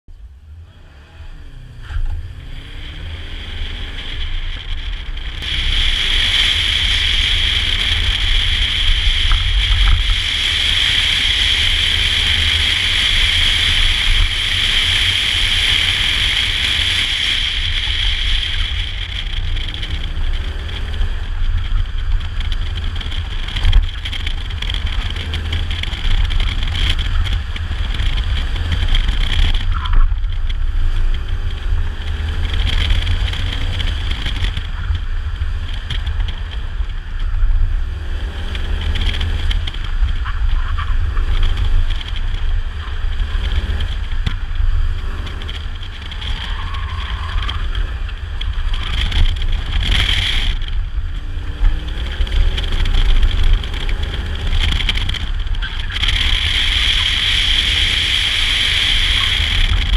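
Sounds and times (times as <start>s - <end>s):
car engine: 0.0s - 59.9s
wind and road rush: 0.1s - 59.9s.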